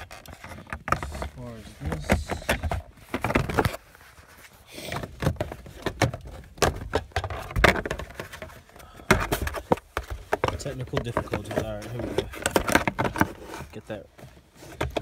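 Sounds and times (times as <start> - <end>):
camera handling knocks and rustling: 0.0 - 3.8, 4.8 - 15.0.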